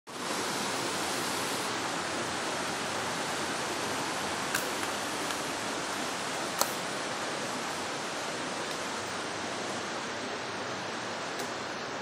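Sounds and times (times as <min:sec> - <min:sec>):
steady rushing noise: 0:00.1 - 0:12.0.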